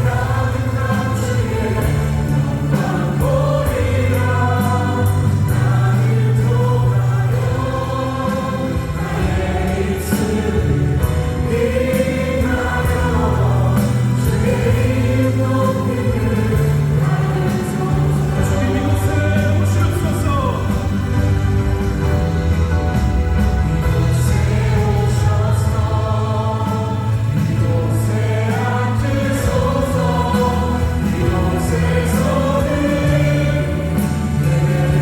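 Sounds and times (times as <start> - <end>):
voices singing together: 0.0 - 22.5, 23.8 - 35.0
acoustic guitar: 0.0 - 35.0
drums: 0.0 - 35.0
keyboards: 0.0 - 35.0.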